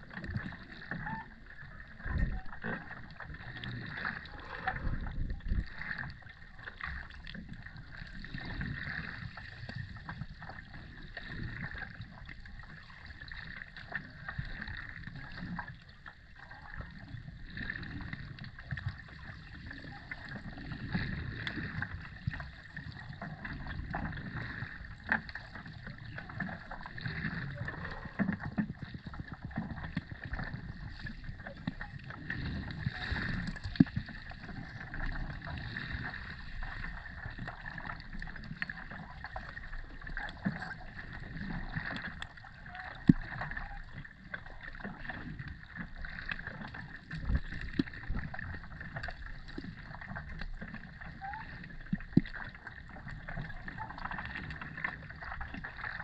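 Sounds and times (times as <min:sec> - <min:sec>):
faint underwater clicks and crackles: 0:00.0 - 0:56.0
muffled underwater water rumble: 0:00.0 - 0:56.0.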